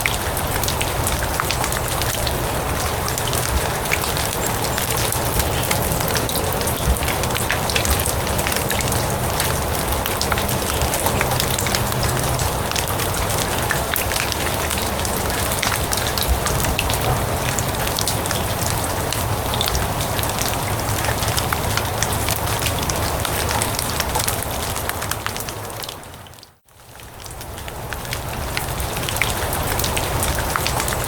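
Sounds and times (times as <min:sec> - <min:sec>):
rain falling on grass: 0:00.0 - 0:31.0.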